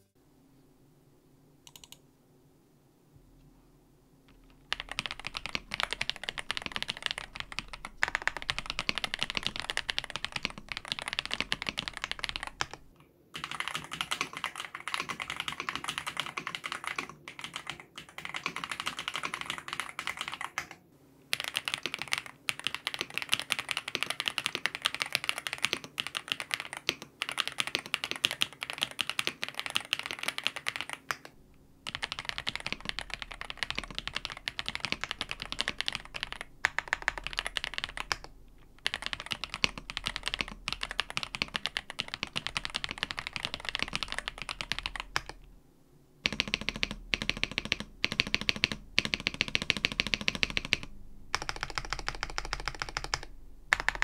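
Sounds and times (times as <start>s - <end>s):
fast typing on mechanical keyboard: 1.7s - 2.0s, 4.3s - 45.4s, 46.2s - 54.0s.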